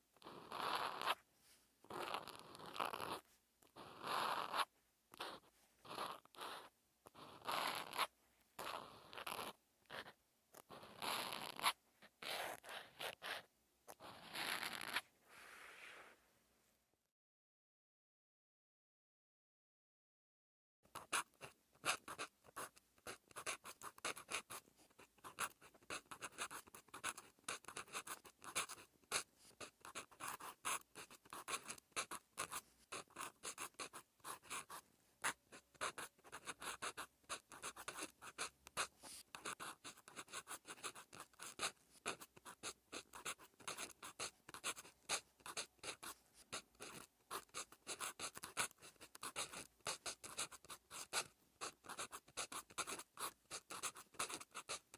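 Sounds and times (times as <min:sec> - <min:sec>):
pen scratching on paper: 0:00.2 - 0:01.2, 0:01.9 - 0:15.1, 0:20.9 - 0:54.9.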